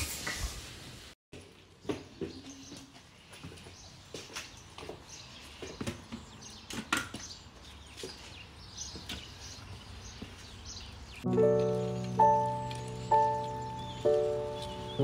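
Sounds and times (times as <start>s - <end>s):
faint outdoor background noise: 0.1s - 15.0s.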